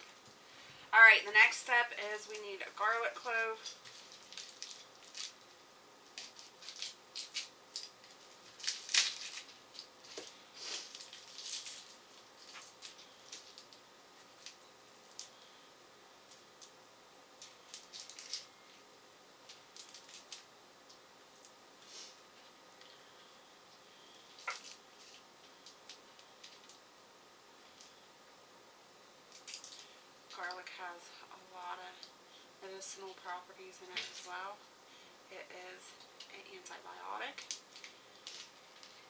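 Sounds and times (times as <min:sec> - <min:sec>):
garlic bulb crackling: 0:00.0 - 0:28.1, 0:29.2 - 0:35.2, 0:35.9 - 0:39.0.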